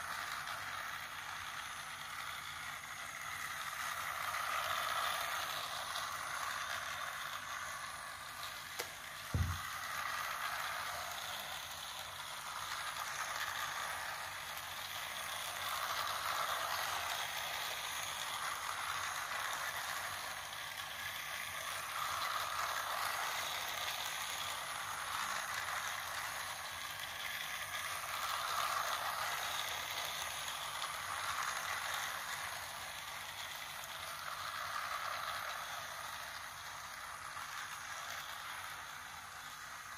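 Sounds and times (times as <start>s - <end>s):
toy train motor whir and rattle: 0.0s - 39.9s.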